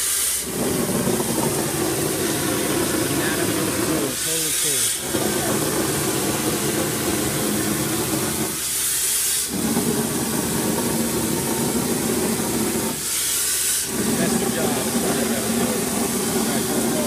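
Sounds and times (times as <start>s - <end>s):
compressed air hiss: 0.0s - 17.0s
concrete line rumbling: 0.5s - 4.2s, 5.0s - 8.6s, 9.5s - 13.0s, 13.8s - 17.0s.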